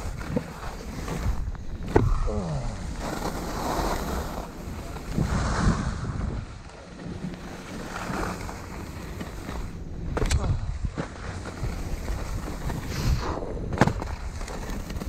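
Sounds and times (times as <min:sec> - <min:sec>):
skis scraping over snow: 0:00.0 - 0:15.0
wind rumbling on microphone: 0:00.0 - 0:15.0.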